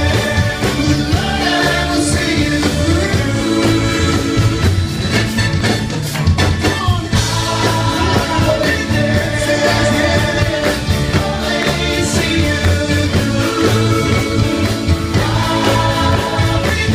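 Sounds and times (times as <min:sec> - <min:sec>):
vocal group singing: 0:00.0 - 0:05.4, 0:06.6 - 0:16.9
soul band playing: 0:00.0 - 0:16.9.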